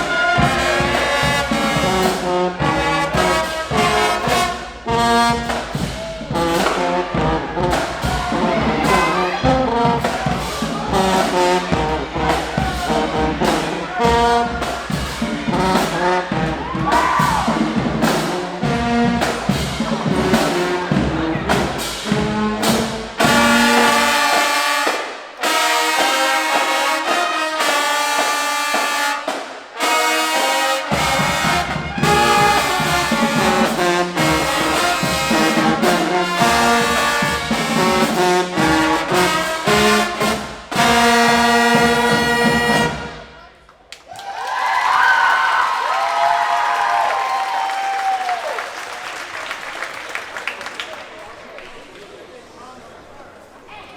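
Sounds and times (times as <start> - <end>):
brass horns playing: 0.0 - 43.5
marching band playing: 0.0 - 43.5
drumline beating steady rhythm: 0.0 - 51.2.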